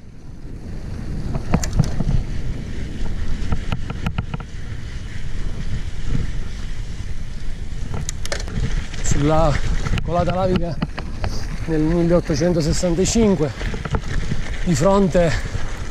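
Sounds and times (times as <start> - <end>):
bike rattling over bumps: 0.0 - 15.9
wind buffeting microphone: 0.0 - 15.9
tyres rolling over dirt: 0.8 - 15.9.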